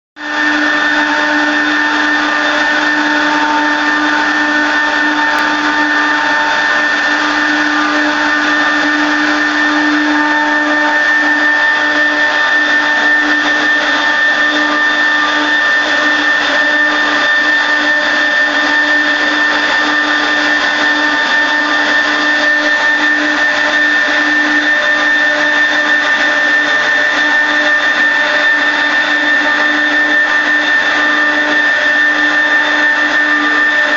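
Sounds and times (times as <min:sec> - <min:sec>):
machine spindle whine: 0:00.2 - 0:33.9
wood cutting noise: 0:00.2 - 0:33.9.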